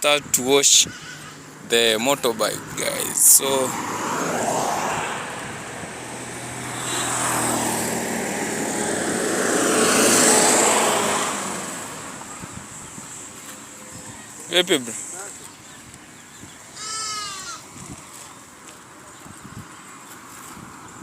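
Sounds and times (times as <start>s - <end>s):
motor vehicle passing by: 2.3s - 21.0s.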